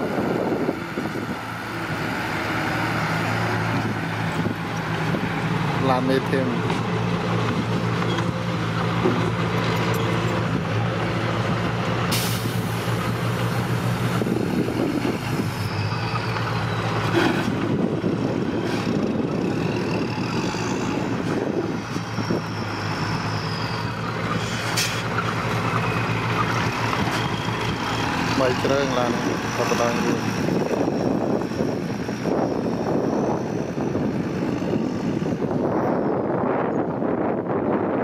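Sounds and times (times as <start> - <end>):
dump truck engine running: 0.0 - 38.0.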